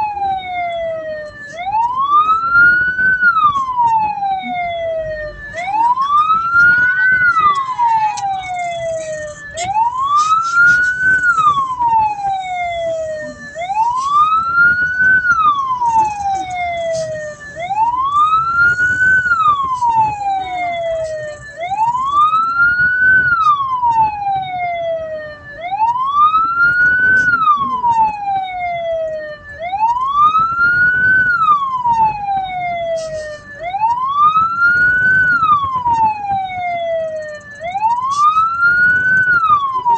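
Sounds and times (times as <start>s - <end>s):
siren wailing: 0.0s - 39.9s
vehicle rumbling: 0.0s - 39.9s.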